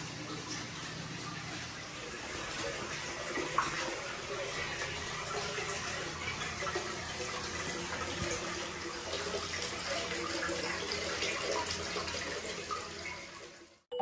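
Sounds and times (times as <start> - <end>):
water running into a bath: 0.0 - 13.9.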